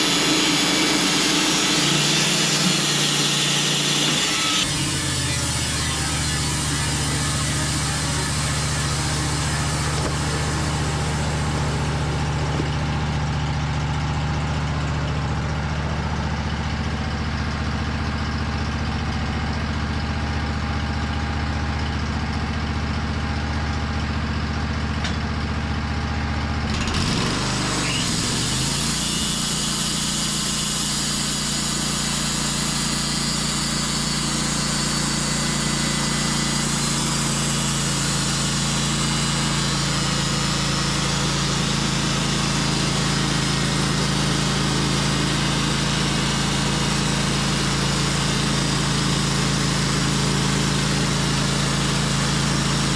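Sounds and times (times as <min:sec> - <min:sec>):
sawmill engine running: 0:00.0 - 0:52.9.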